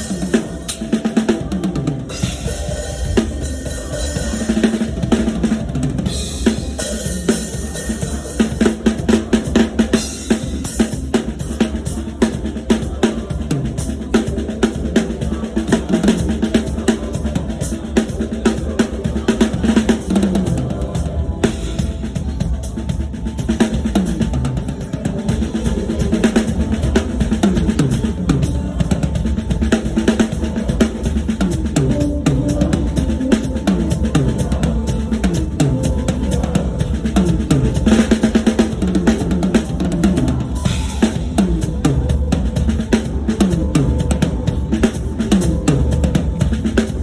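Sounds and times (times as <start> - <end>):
rapid drum kit playing: 0.0 - 47.0.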